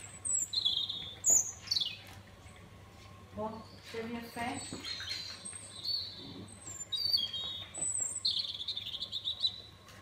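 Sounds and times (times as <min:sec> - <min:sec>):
bird chirping: 0:00.0 - 0:02.2, 0:03.5 - 0:09.8.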